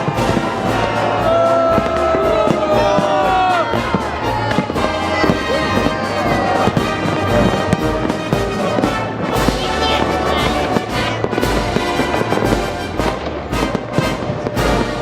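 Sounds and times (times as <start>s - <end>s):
fireworks bangs: 0.0s - 15.0s
orchestral music with brass: 0.0s - 15.0s.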